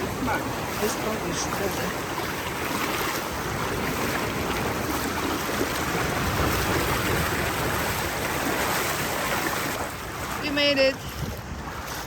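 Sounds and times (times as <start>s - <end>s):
river current: 0.0s - 12.0s
surf: 0.0s - 12.0s
wind buffeting microphone: 0.0s - 12.0s.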